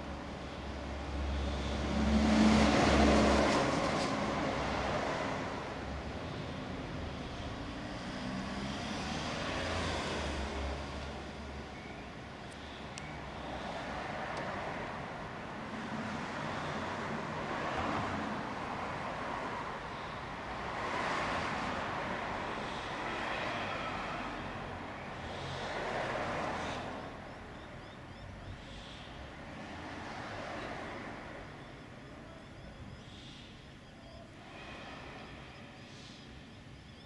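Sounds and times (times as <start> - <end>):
passing vehicles hum: 0.0 - 37.0.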